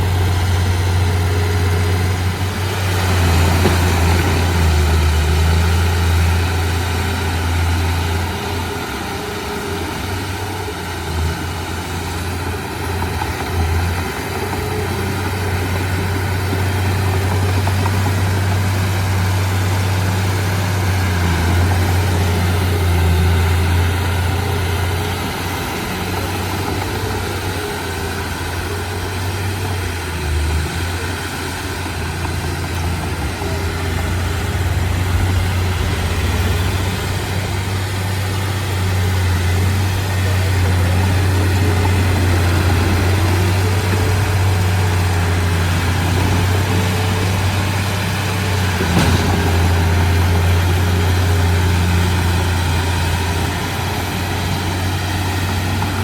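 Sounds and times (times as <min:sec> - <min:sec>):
heavy diesel engine humming: 0:00.0 - 0:56.0.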